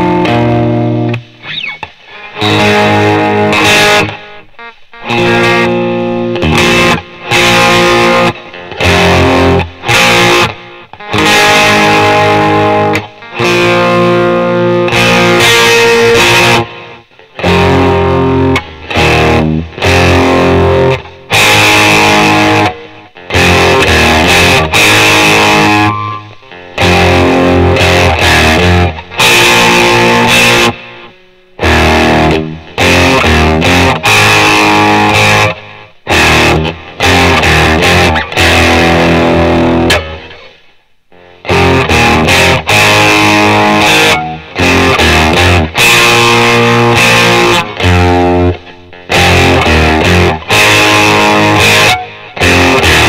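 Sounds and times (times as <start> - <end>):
electric guitar chords: 0.0 - 53.0.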